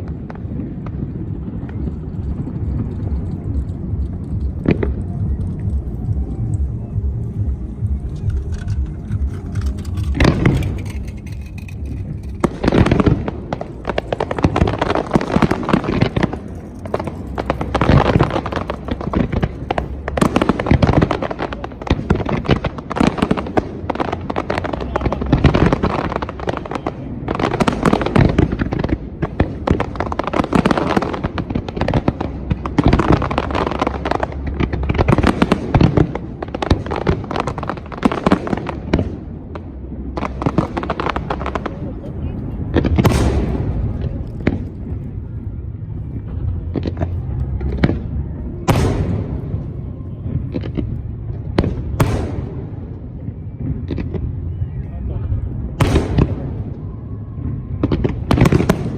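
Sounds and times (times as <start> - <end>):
fireworks bursting and crackling: 0.0 - 58.9.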